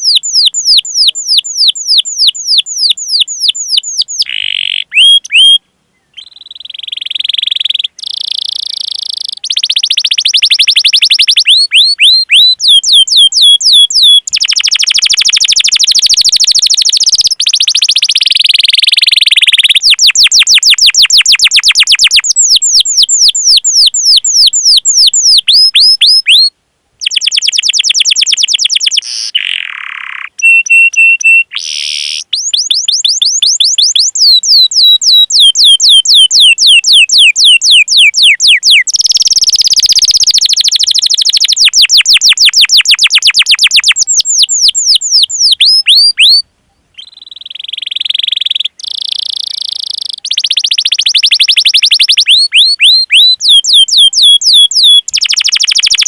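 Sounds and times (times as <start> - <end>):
canary singing chirps and trills: 0.0 - 46.4, 47.0 - 56.0.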